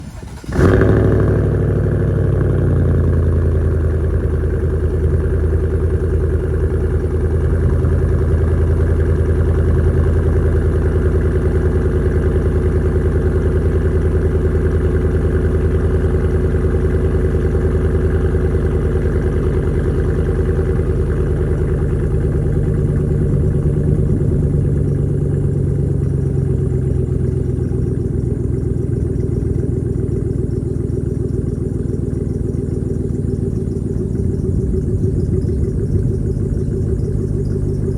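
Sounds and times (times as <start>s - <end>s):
truck engine starting and idling: 0.0s - 37.9s.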